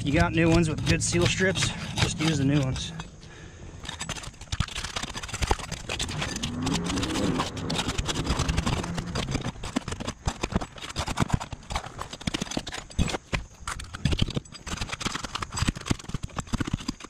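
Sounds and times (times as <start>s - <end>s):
pry bar scraping under shingles: 0.0s - 17.0s.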